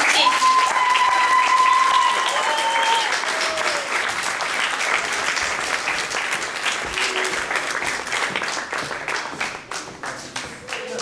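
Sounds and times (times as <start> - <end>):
many hands clapping: 0.0 - 11.0.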